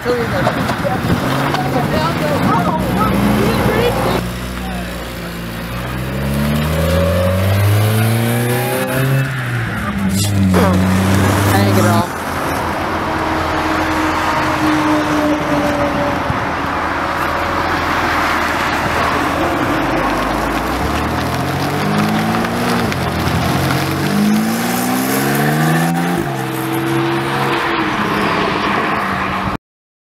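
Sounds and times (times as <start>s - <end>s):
sports car engine accelerating: 0.0s - 29.6s.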